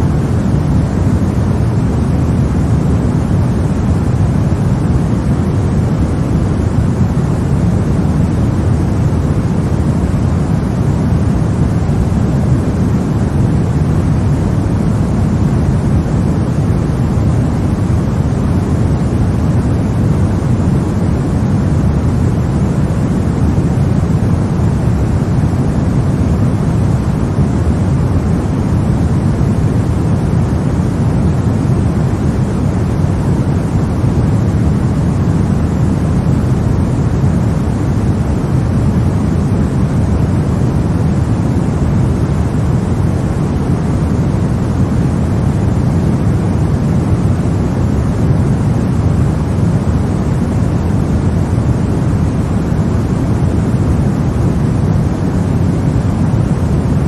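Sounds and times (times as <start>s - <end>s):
low rushing sleep noise: 0.0s - 57.0s.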